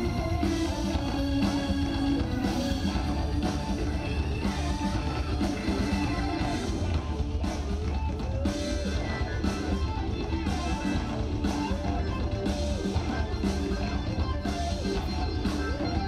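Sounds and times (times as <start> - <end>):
electric guitar sliding notes: 0.0 - 16.0
live rock band playing: 0.0 - 16.0.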